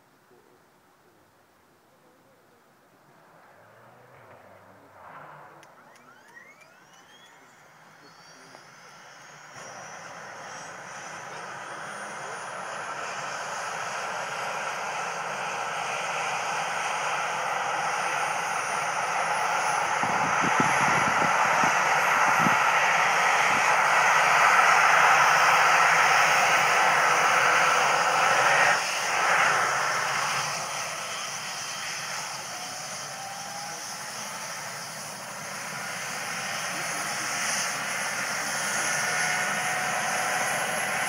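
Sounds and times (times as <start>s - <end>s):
helicopter turbine and rotor: 5.4s - 41.0s.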